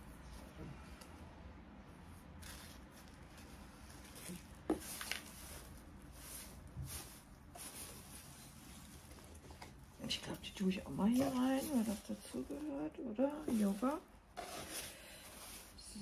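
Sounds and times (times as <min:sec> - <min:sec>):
plastic packaging rustling: 0:02.3 - 0:16.0.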